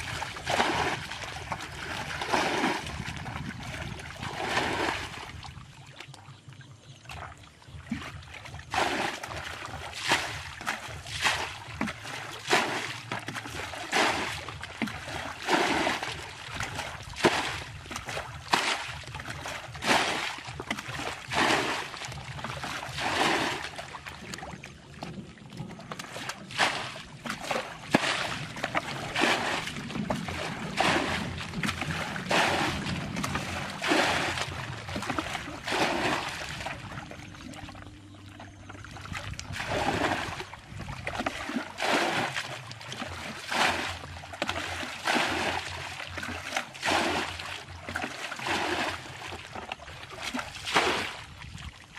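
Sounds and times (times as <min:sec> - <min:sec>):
water splashing from bucket: 0:00.0 - 0:06.3, 0:07.1 - 0:51.9.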